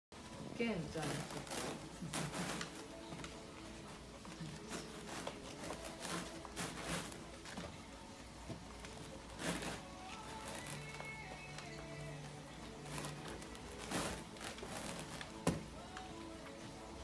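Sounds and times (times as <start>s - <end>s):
rustles against fabric walls: 0.2s - 17.0s.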